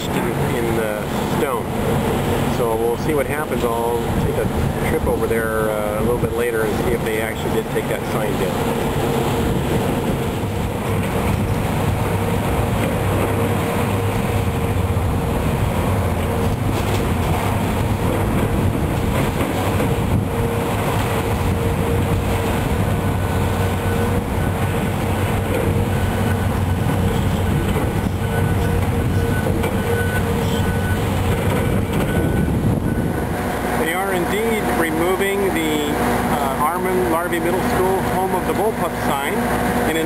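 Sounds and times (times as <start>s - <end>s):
diesel machinery engine rumble: 0.0s - 40.0s.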